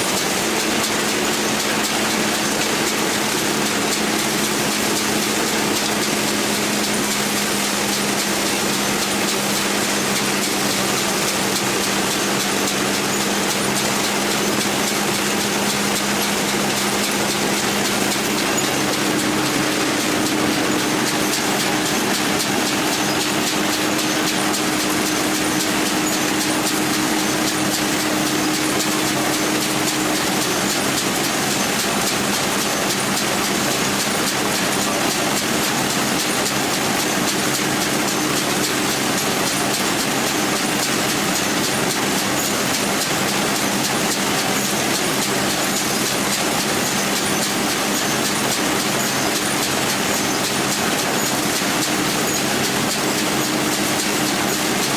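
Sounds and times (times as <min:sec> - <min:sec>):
farm machinery engine hum: 0:00.0 - 0:54.9
rapid mechanical clatter: 0:00.0 - 0:54.9.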